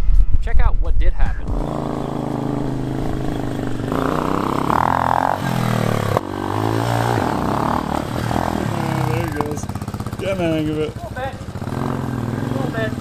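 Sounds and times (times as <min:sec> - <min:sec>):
motorcycle engine pulling away: 0:01.4 - 0:13.0.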